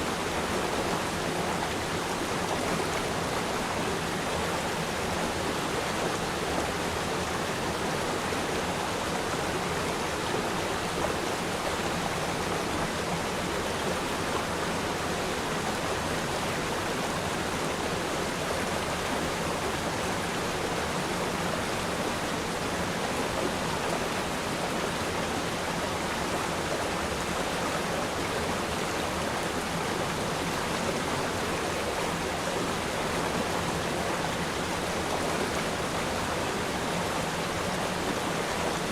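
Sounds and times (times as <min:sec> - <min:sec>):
river stream flowing over rocks: 0:00.0 - 0:38.9.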